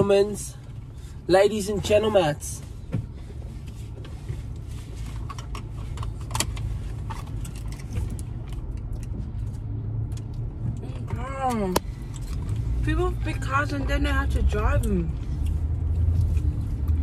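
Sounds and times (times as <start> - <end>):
car cabin low rumble: 0.0 - 17.0.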